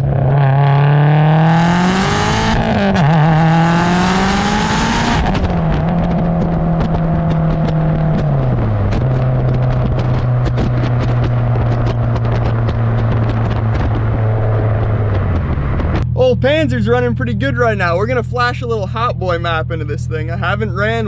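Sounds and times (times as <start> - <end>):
car engine revving: 0.0 - 21.0
exhaust crackles: 0.0 - 21.0.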